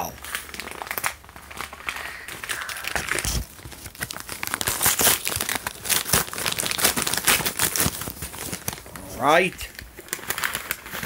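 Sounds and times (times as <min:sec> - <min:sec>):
cardboard crinkling and tearing: 0:00.0 - 0:11.0.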